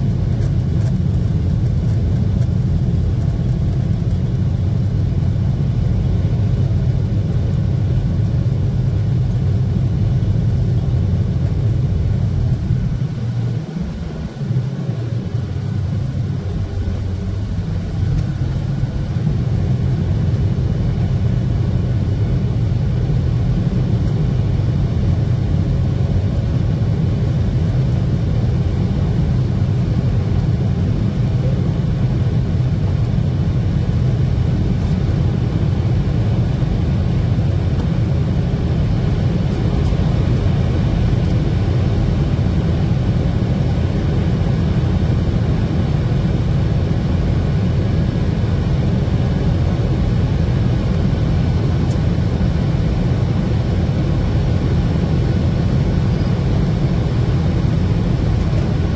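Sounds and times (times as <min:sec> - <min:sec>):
airplane cabin jet engine rumble: 0:00.0 - 0:58.9.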